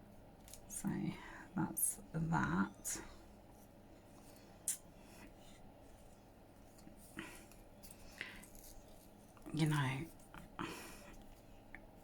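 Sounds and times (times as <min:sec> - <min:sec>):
soft rustle: 0:00.0 - 0:12.0.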